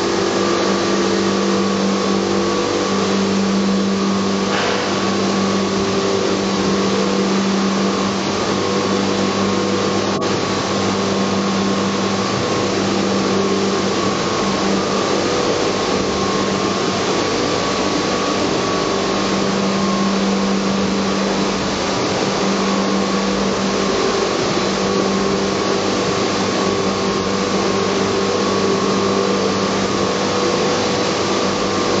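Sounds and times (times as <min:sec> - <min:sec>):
pumps and machinery humming: 0:00.0 - 0:32.0.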